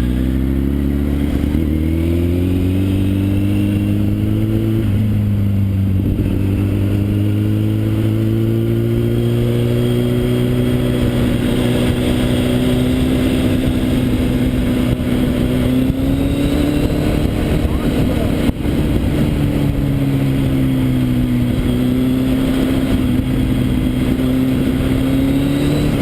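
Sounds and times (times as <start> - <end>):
motorcycle engine accelerating: 0.0 - 26.0
road noise: 0.0 - 26.0.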